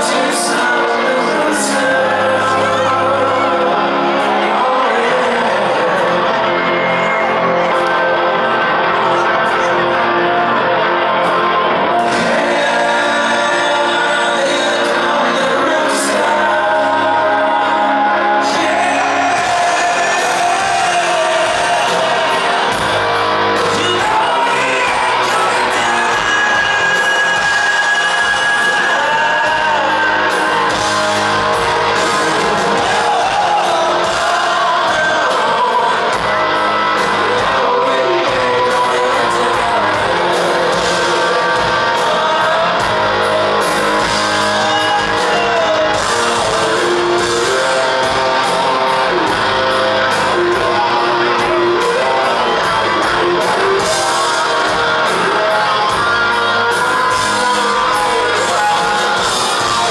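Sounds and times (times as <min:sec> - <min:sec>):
bass: 0:00.0 - 0:59.9
distorted electric guitars: 0:00.0 - 0:59.9
drums: 0:00.0 - 0:59.9
vocals: 0:00.0 - 0:59.9.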